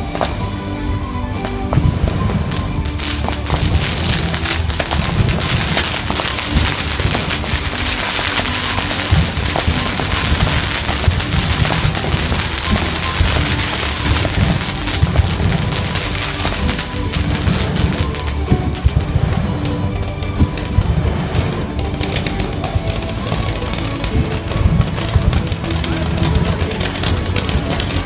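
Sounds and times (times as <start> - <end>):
flame projectors shooting fireballs: 1.6 - 28.0
pyrotechnic sparks hissing: 1.7 - 28.0.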